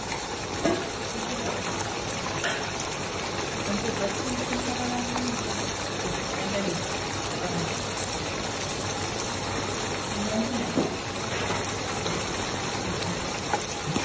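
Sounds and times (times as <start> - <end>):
sauce bubbling in a wok: 0.0 - 14.0.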